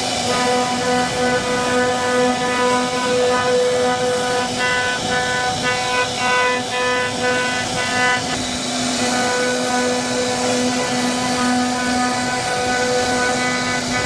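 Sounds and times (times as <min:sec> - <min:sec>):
router spindle whining: 0:00.0 - 0:14.0.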